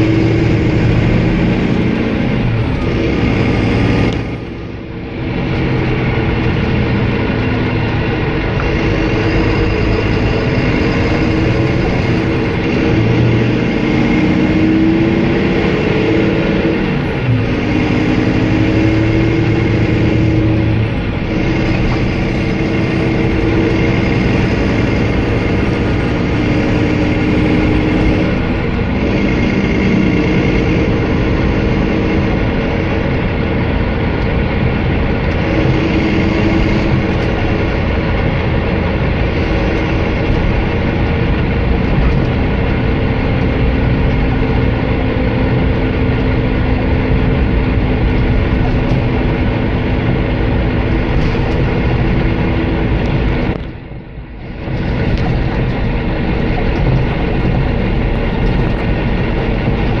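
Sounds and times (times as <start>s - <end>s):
diesel engine running: 0.0s - 60.0s
road noise rumble: 0.0s - 60.0s.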